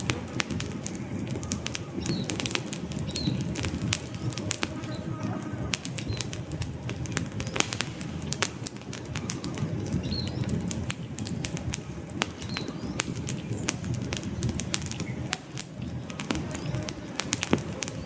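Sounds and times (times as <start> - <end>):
logs crackling and popping: 0.0 - 18.0
low rush of flames: 0.0 - 18.0.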